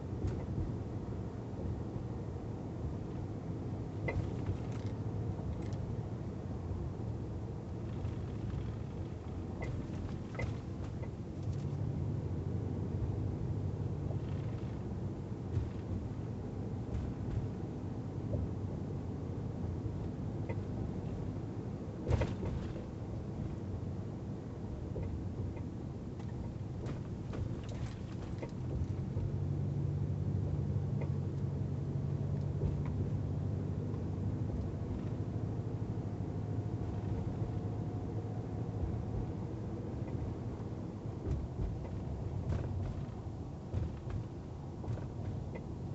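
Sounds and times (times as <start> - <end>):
truck driving rumble: 0.0 - 45.9.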